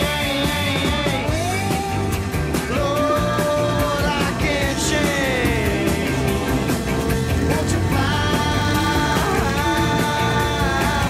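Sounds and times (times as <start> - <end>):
rock music with sliding lead: 0.0 - 11.0.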